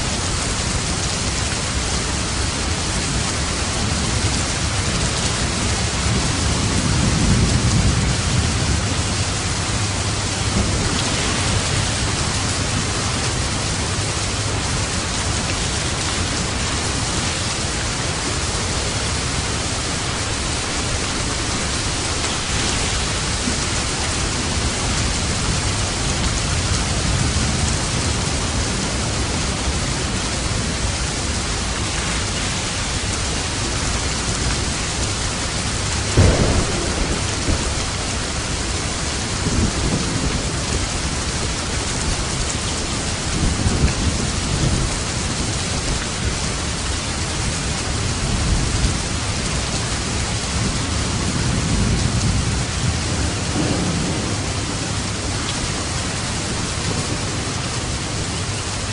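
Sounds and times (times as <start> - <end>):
steady rain: 0.0 - 58.9
thunder rumbling: 0.1 - 58.9.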